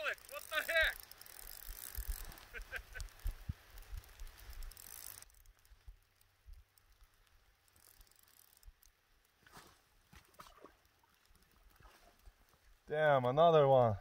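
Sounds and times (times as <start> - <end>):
fishing reel clicking: 0.0 - 9.4, 10.3 - 12.6.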